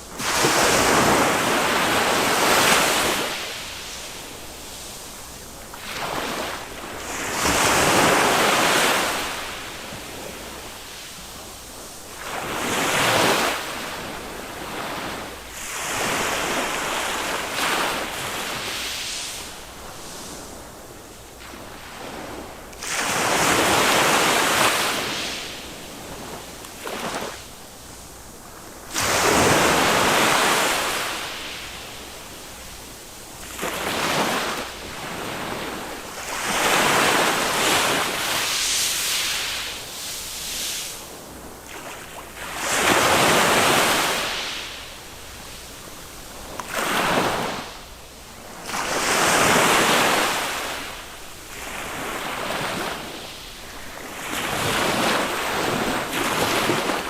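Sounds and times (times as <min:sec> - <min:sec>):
small waves breaking on shore: 0:00.0 - 0:57.0.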